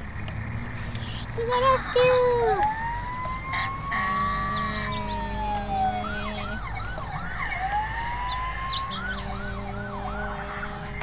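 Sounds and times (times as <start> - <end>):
electronic toy siren wailing: 1.4 - 11.0.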